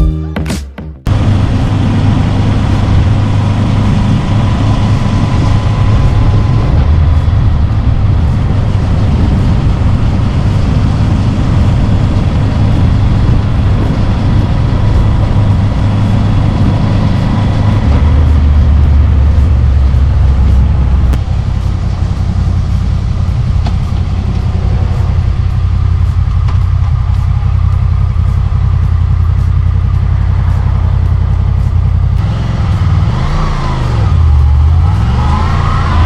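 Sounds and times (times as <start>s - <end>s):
motorcycle engine cruising: 1.0s - 36.0s.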